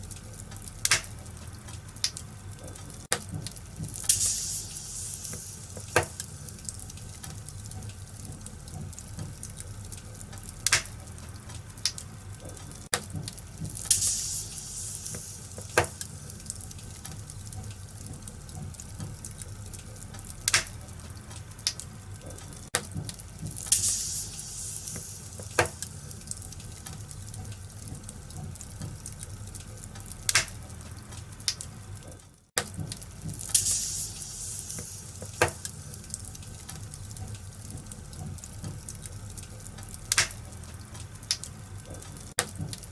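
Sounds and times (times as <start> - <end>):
fire crackling and popping: 0.0 - 42.9.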